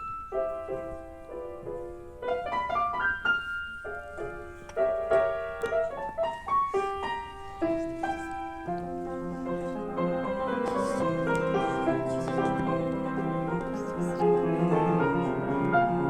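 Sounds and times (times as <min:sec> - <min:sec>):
solo classical piano: 0:00.0 - 0:16.0.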